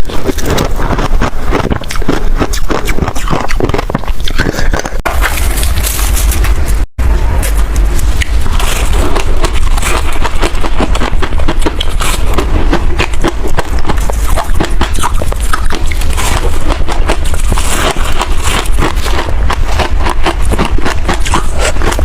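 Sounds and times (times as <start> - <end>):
chewing ice crunches: 0.0 - 6.5, 7.4 - 22.0.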